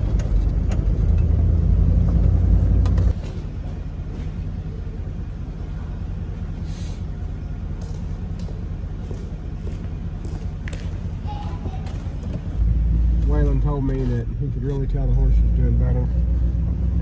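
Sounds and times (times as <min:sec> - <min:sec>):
pickup truck engine and road rumble: 0:00.0 - 0:17.0.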